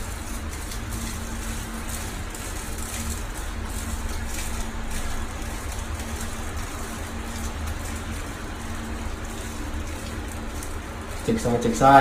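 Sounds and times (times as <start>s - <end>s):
water pouring from kettle: 0.0s - 12.0s
water splashing on tiled floor: 0.0s - 12.0s.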